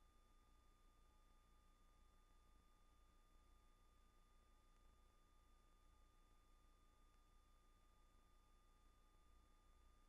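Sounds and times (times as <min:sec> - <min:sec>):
faint hum with high tone: 0:00.0 - 0:10.0.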